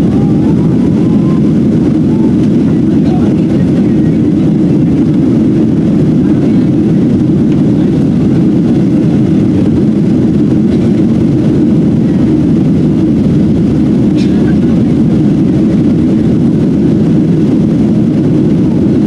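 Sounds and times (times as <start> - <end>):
jet engines and airflow rumbling: 0.0 - 19.0.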